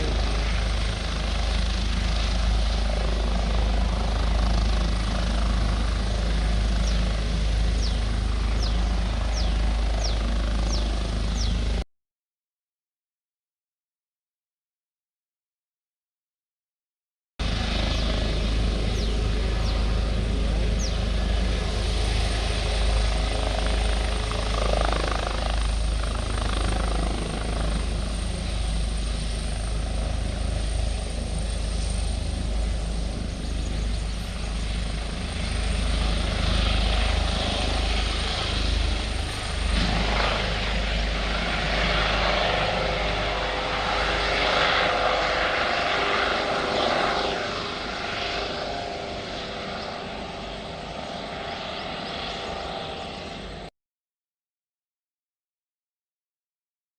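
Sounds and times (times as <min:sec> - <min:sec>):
helicopter flying by: 0:00.0 - 0:11.8, 0:17.4 - 0:53.7.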